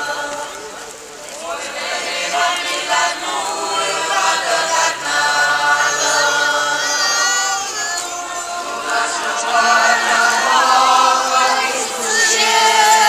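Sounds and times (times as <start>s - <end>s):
crowd singing together: 0.0s - 13.0s.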